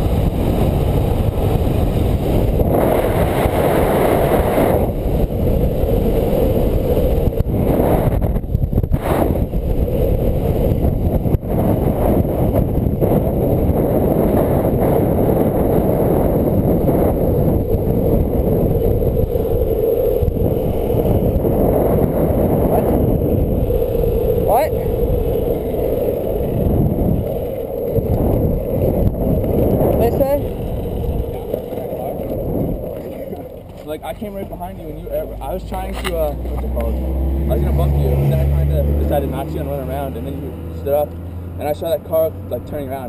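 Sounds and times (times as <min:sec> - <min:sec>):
longboard wheels rolling on asphalt: 0:00.0 - 0:43.0
wind rushing over microphone: 0:00.0 - 0:43.0.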